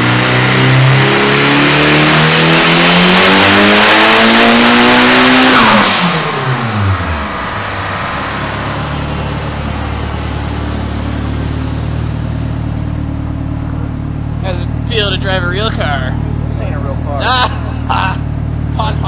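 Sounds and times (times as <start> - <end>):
car engine revs falling to idle: 0.0 - 19.0.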